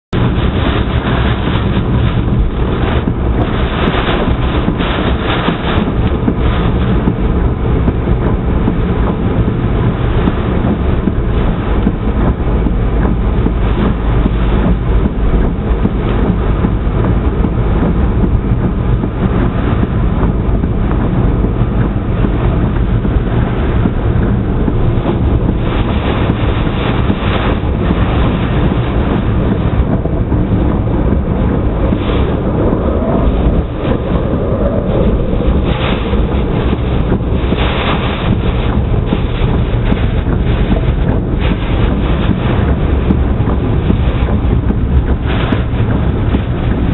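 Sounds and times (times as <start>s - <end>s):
wind buffeting microphone: 0.1s - 46.9s.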